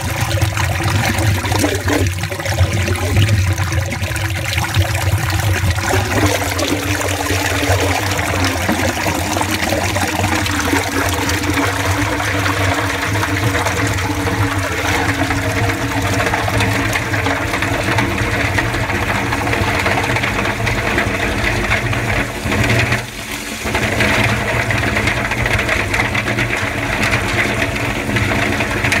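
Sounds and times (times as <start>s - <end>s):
machine hum: 0.0s - 29.0s
sewage rushing through pipe: 0.0s - 29.0s.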